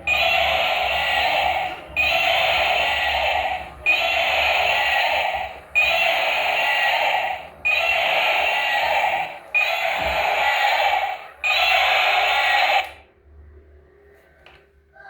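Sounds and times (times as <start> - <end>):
toy vehicle electronic sound effect: 0.0 - 13.0.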